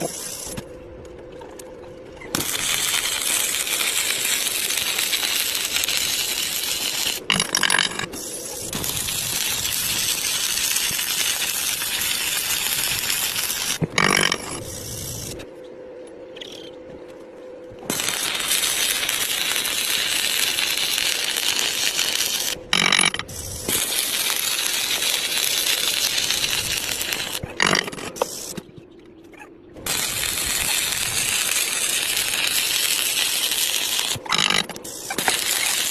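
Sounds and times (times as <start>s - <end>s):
welding arc crackling: 0.0s - 0.6s, 2.3s - 15.5s, 17.8s - 28.6s, 29.8s - 35.9s.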